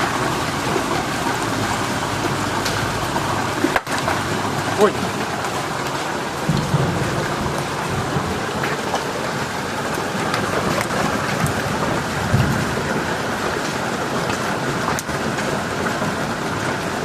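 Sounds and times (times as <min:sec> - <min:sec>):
low thunder rumbles: 0:00.0 - 0:13.8
heavy rain pouring: 0:00.0 - 0:17.0
raindrops ticking on surfaces: 0:00.0 - 0:17.0.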